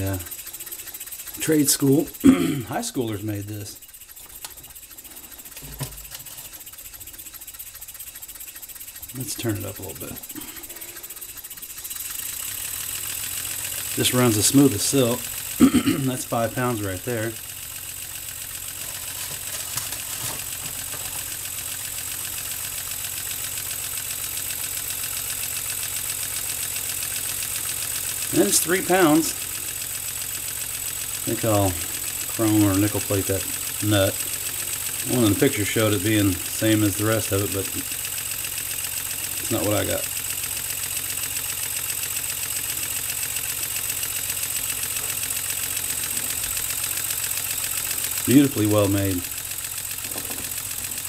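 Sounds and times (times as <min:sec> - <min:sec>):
model steam engine exhaust puffs: 0:00.0 - 0:51.0.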